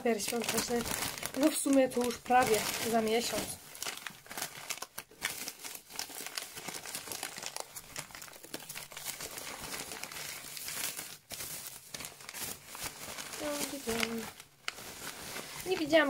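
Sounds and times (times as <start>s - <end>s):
wrapping paper crinkling: 0.0s - 16.0s.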